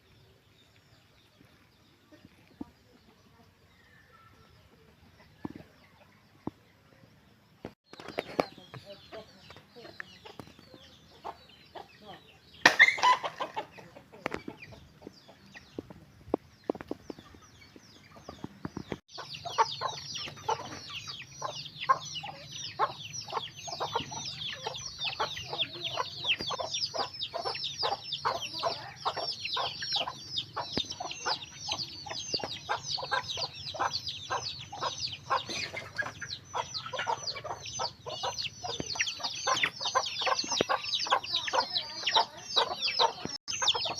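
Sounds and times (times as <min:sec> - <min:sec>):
chickens clucking: 0:00.0 - 0:43.9
chicks peeping: 0:07.6 - 0:43.9.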